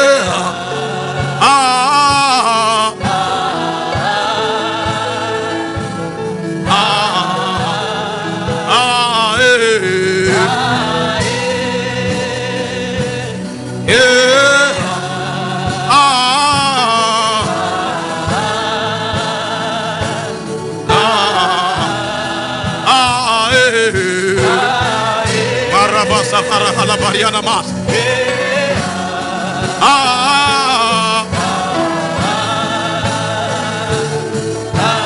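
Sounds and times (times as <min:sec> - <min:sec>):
gospel worship music: 0:00.0 - 0:35.0
person singing ornamented lines: 0:00.0 - 0:35.0.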